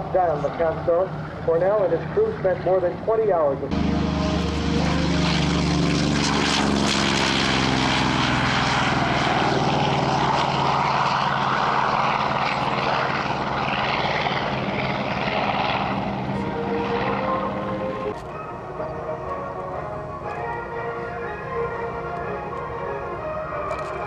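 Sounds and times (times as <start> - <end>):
propeller plane flying past: 0.0 - 24.0.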